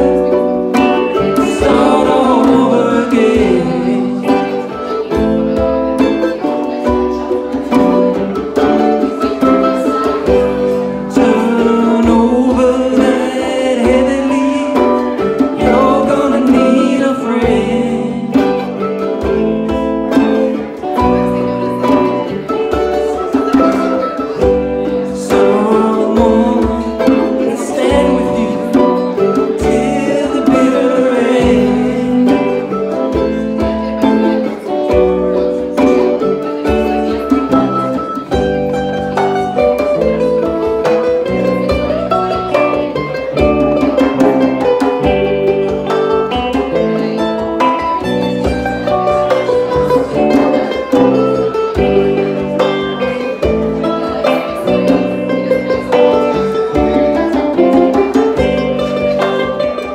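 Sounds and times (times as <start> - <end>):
band playing live: 0.0 - 59.9
hand drum strikes: 0.0 - 59.9.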